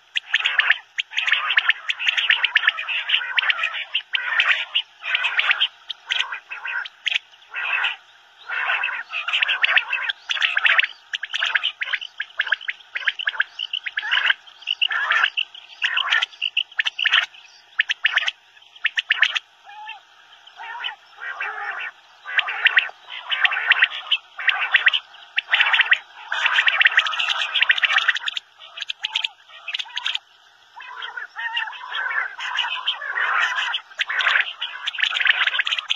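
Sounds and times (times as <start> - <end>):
quail calling in short bursts: 0.0 - 30.2, 30.8 - 35.9.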